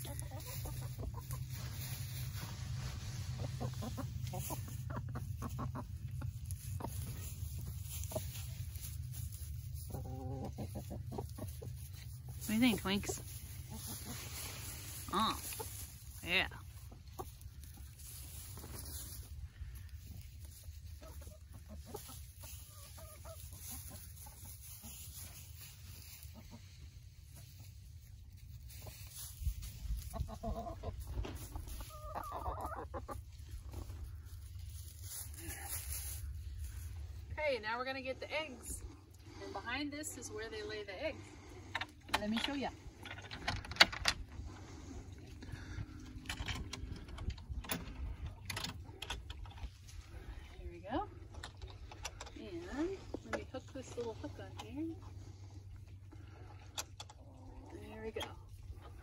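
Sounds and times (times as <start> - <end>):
hens clucking: 0.0 - 59.0
low steady rumble: 0.0 - 59.0.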